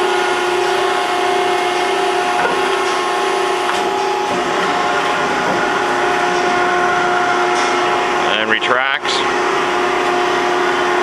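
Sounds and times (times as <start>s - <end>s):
electric motor and hydraulic pump whine: 0.0s - 11.0s.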